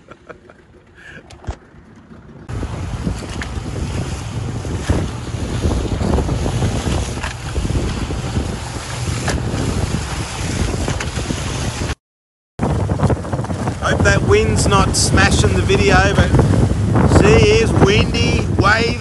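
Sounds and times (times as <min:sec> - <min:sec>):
waves splashing: 0:00.0 - 0:12.0, 0:12.6 - 0:19.0
wind buffeting microphone: 0:00.8 - 0:12.0, 0:12.6 - 0:19.0.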